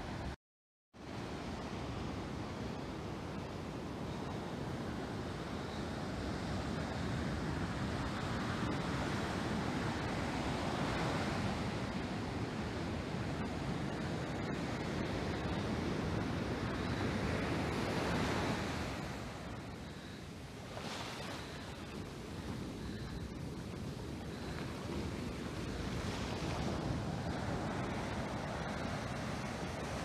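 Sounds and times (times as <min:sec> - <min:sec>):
waves breaking on beach: 0:01.0 - 0:30.0.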